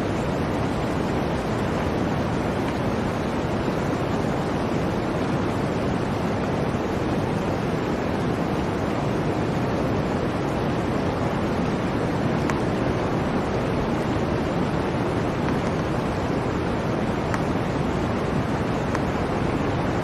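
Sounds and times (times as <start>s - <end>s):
blizzard wind rushing: 0.0s - 20.0s.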